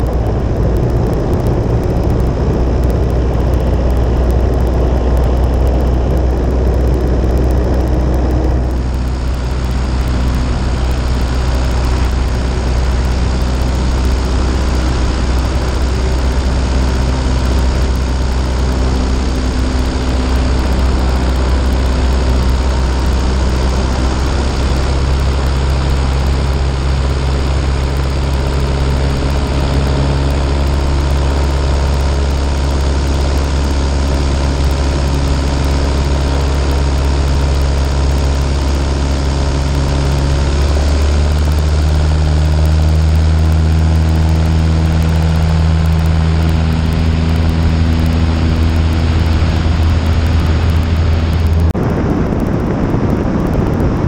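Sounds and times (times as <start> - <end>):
light aircraft engine droning: 0.0 - 54.0
wind rushing over microphone: 0.0 - 54.0.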